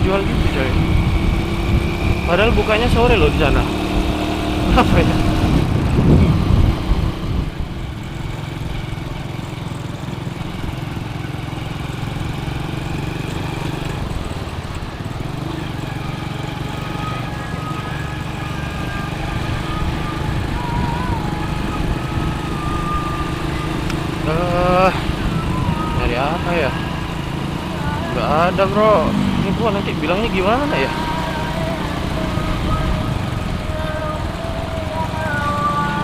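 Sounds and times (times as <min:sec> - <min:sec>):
motorcycle engine cruising: 0:00.0 - 0:36.0
wind and road noise: 0:00.0 - 0:36.0.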